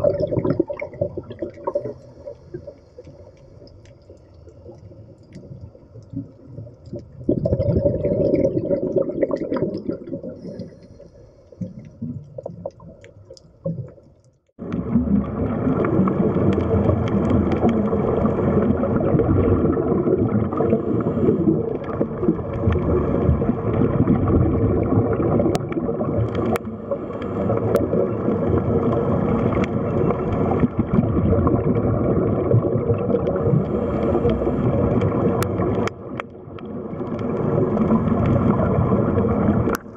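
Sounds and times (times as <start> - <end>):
underwater rushing rumble: 0.0 - 2.8, 4.6 - 11.4, 14.6 - 39.9
underwater bubbles gurgling: 0.0 - 39.9.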